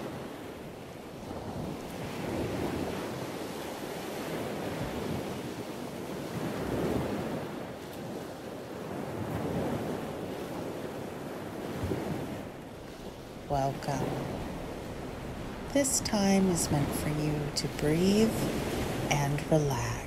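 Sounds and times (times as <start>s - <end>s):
waves breaking on sandy beach: 0.0s - 20.0s.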